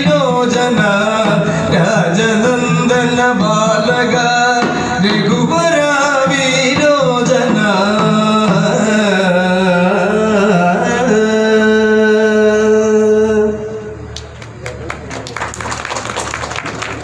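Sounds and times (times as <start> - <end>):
devotional singing: 0.0 - 13.8.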